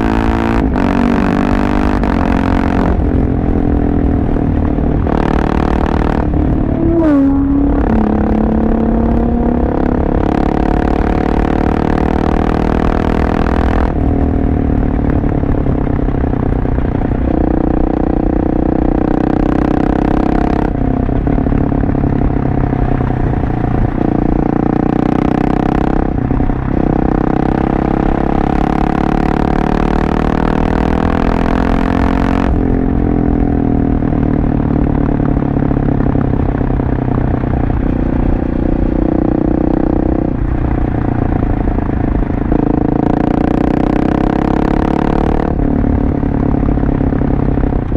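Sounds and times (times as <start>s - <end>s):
motorcycle engine changing pitch: 0.0s - 47.9s.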